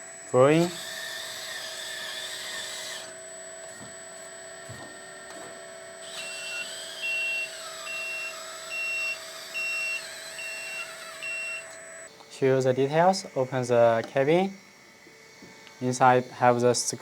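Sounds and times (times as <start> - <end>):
electric pump motor whining: 0.0 - 17.0.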